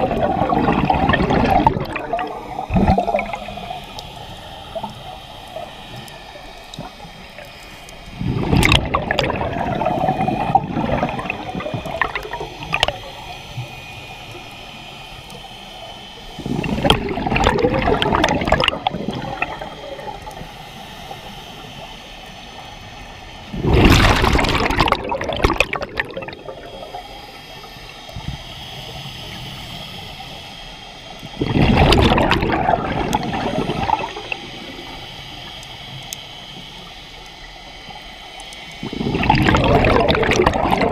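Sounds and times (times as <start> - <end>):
underwater exhaled bubbles: 0.0 - 14.6, 16.0 - 22.7, 23.4 - 30.0, 31.2 - 36.6, 38.4 - 40.9
steady low underwater background: 0.0 - 40.9.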